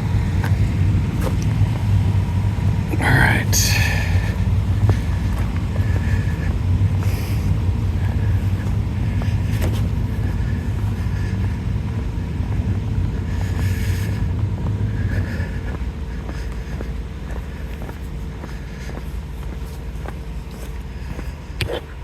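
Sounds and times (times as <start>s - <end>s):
fire truck engine rumbling: 0.0s - 22.0s.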